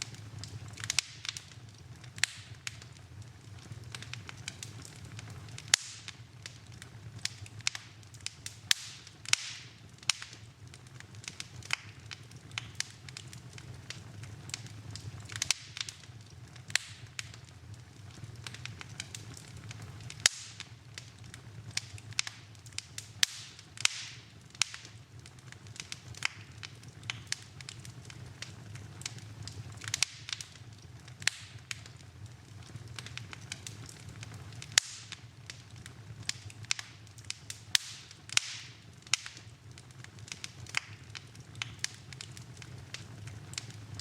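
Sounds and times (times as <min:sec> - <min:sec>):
low steady hum: 0:00.0 - 0:44.0
wood fire crackling: 0:00.0 - 0:44.0.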